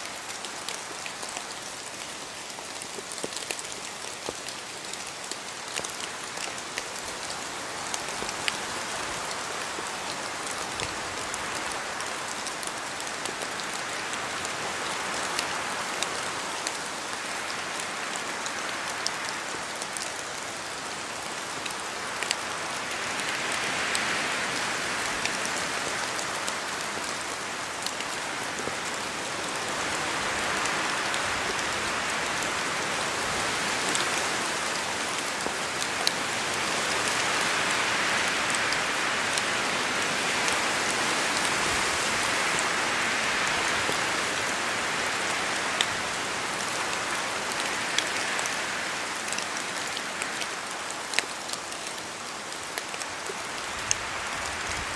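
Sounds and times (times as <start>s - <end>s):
rain falling on trees: 0.0s - 54.9s.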